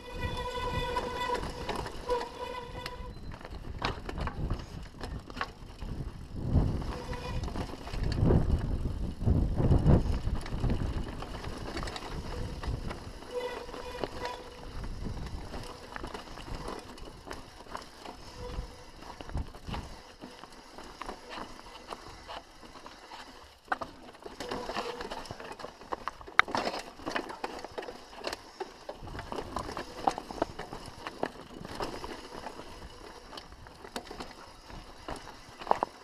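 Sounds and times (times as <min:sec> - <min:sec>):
bike knocks and rattles: 0:00.0 - 0:36.0
bike tyres rolling over stones: 0:00.0 - 0:36.0.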